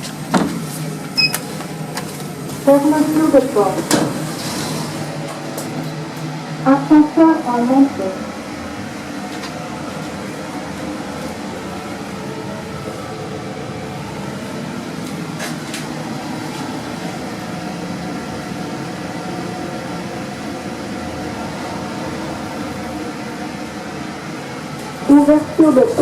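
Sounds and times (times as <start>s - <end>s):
lift running rumble and hum: 0.0s - 26.0s.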